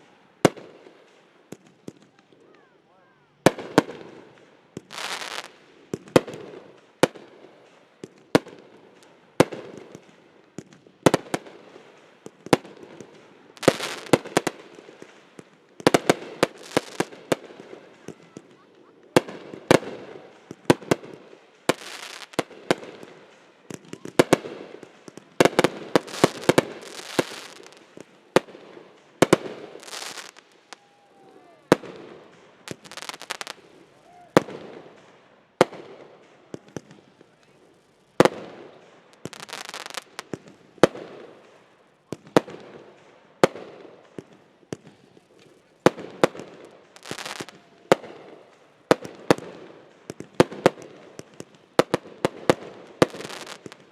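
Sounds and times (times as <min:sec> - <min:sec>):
fireworks bangs and pops: 0:00.0 - 0:02.6, 0:03.4 - 0:53.9
fireworks hissing and crackling: 0:00.0 - 0:53.9.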